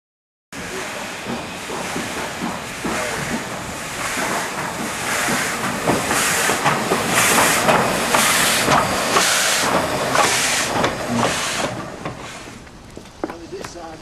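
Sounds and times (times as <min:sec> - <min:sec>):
steam locomotive hissing chuffs: 0:00.6 - 0:14.0
wheels clicking on rails: 0:00.6 - 0:14.0.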